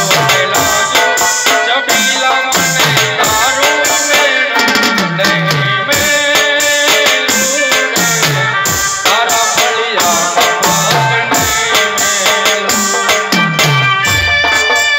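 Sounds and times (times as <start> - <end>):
folk music with keyboard and drums: 0.0 - 14.9.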